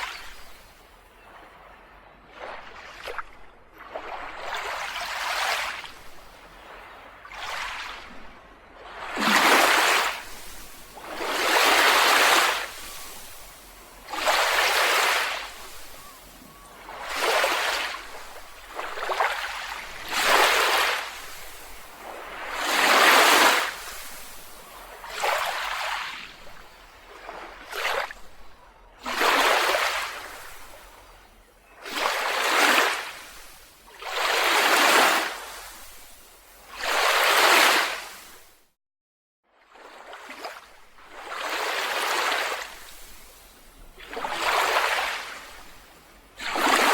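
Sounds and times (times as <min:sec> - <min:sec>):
sea waves washing on beach: 0:02.5 - 0:38.6, 0:40.2 - 0:46.9.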